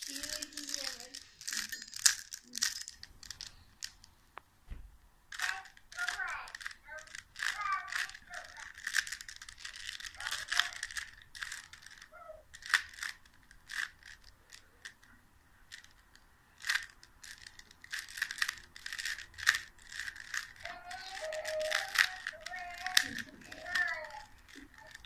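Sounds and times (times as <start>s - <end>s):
puzzle cube clicking and rattling: 0.0s - 4.1s, 5.3s - 25.0s.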